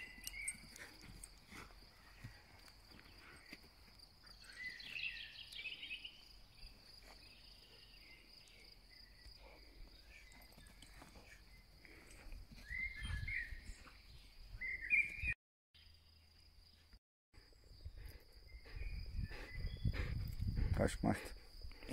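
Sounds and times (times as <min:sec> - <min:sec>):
crickets chirring: 0:00.0 - 0:14.2, 0:17.4 - 0:21.9.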